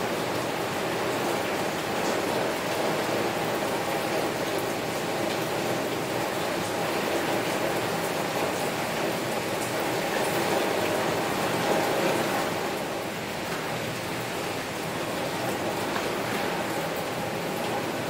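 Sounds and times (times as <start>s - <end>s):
heavy rain on window: 0.0s - 18.0s.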